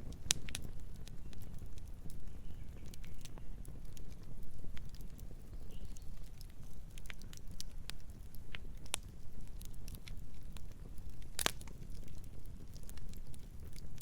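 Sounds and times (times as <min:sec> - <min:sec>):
rumble of flames: 0:00.0 - 0:14.0
wood crackling and popping: 0:00.0 - 0:14.0.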